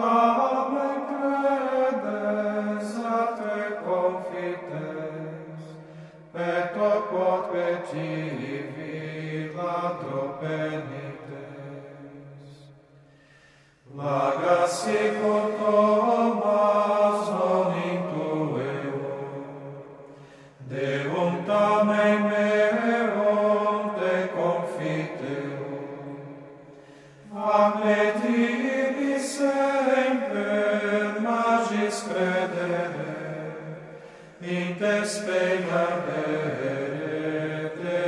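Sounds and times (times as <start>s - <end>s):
slow chant-like singing: 0.0s - 38.0s.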